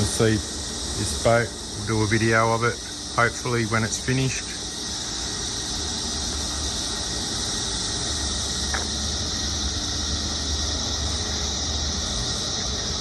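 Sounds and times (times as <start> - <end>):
insect chorus drone: 0.0 - 13.0
low outdoor rumble: 0.0 - 13.0.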